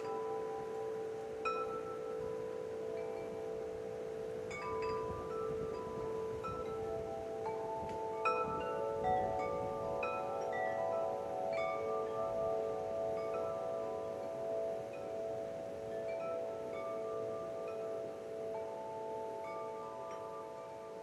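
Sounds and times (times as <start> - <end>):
wind chimes ringing: 0.0 - 21.0.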